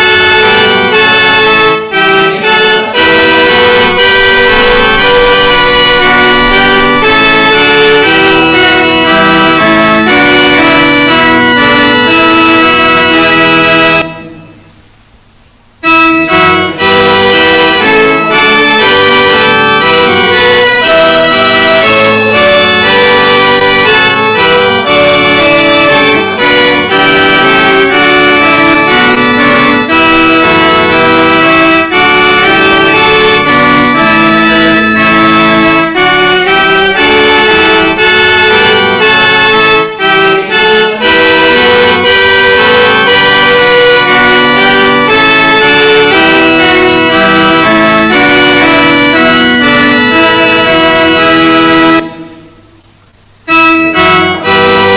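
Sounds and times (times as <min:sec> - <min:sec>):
instrumental hymn accompaniment: 0:00.0 - 0:54.9.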